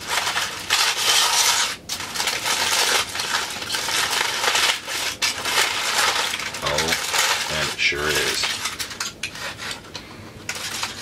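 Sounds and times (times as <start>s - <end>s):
foil pouch crinkling: 0.0s - 11.0s.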